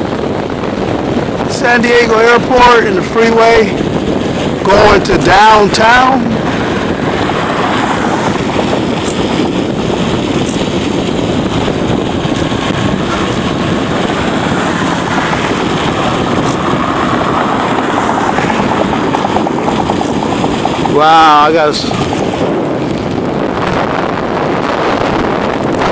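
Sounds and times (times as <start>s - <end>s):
bicycle tyre and road rumble: 0.0s - 25.9s
wind on microphone: 0.0s - 25.9s.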